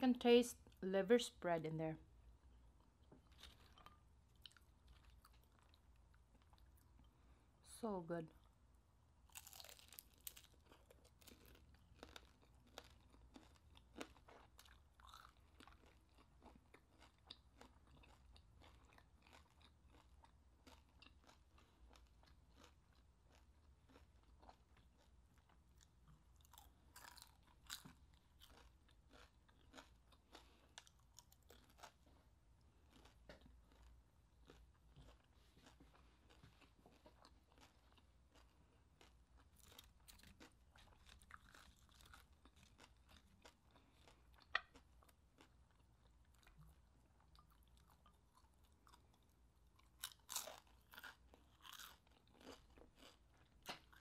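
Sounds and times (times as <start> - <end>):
crunching and chewing crispy food: 2.8 - 7.2, 9.2 - 54.0.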